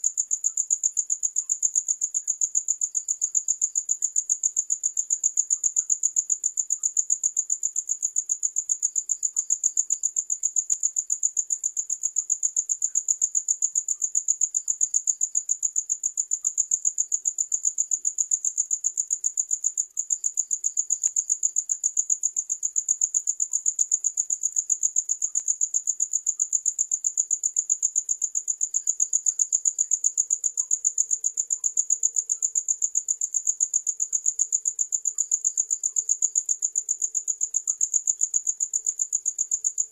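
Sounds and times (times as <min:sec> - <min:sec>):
crickets chirping: 0:00.0 - 0:39.9
lower cricket trill: 0:00.1 - 0:39.9.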